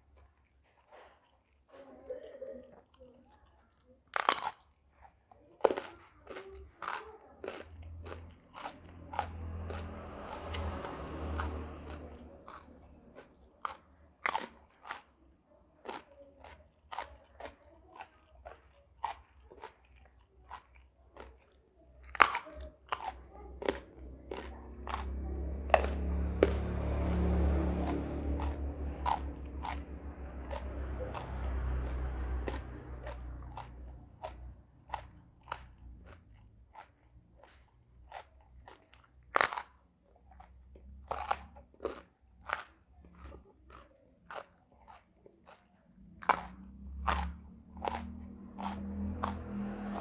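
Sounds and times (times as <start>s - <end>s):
crunchy chewing of raw vegetables: 0.0s - 50.0s.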